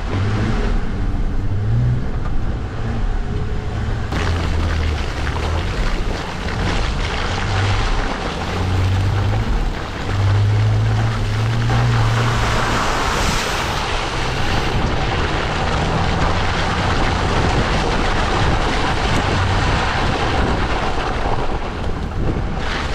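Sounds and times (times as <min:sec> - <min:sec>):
low engine hum: 0:00.0 - 0:22.9
tyre and wind noise: 0:00.0 - 0:22.9.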